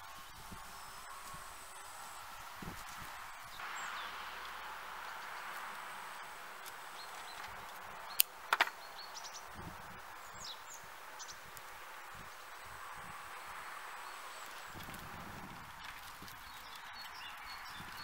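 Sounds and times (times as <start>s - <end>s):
rustling of sprigs: 0.0s - 10.4s, 11.3s - 18.0s.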